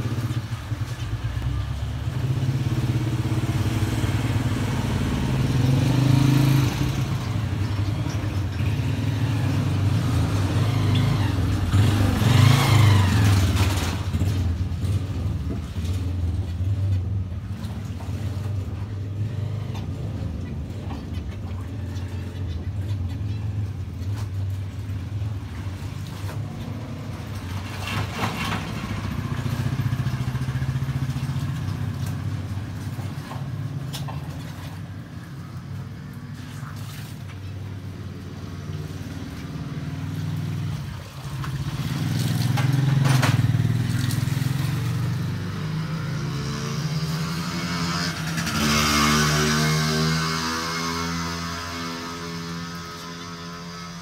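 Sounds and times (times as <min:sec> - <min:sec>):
vehicle engines rumbling: 0:00.0 - 0:54.0
vehicle passing: 0:00.0 - 0:54.0.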